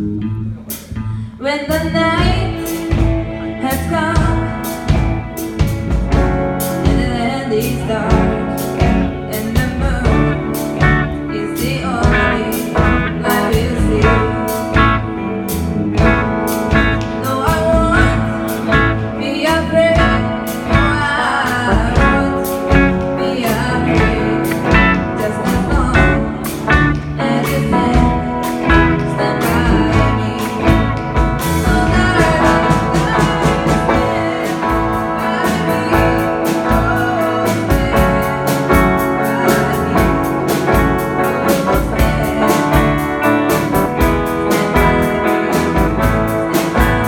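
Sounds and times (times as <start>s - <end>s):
live band playing: 0.0s - 47.0s
person singing: 0.5s - 47.0s
drum kit beat: 2.2s - 47.0s.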